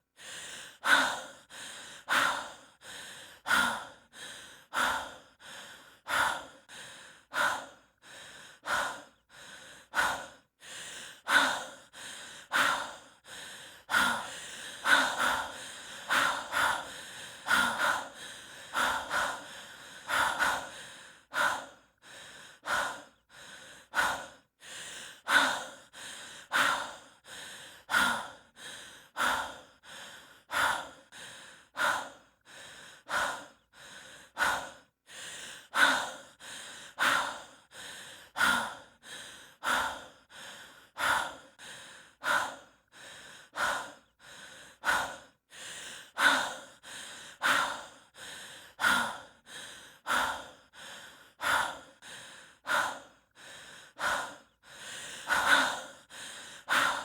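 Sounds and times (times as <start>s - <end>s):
person breathing heavily: 0.0s - 57.0s.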